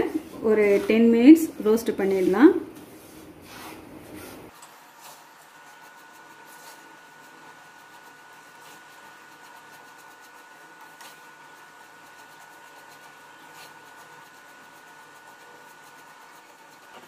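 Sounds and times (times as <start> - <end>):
spatula scraping a pan: 0.0 - 17.0.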